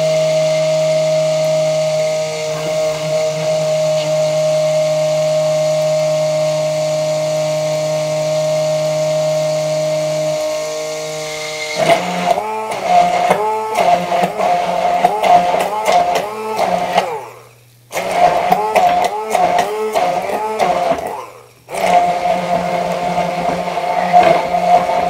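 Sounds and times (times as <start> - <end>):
stick blender running: 0.0 - 25.0.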